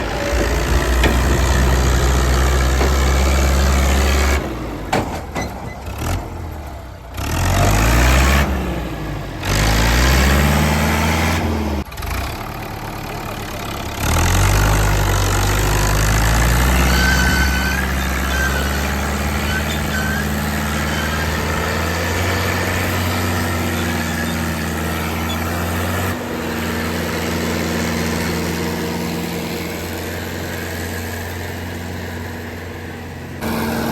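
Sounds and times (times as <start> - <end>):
tractor diesel engine revving: 0.0 - 33.9.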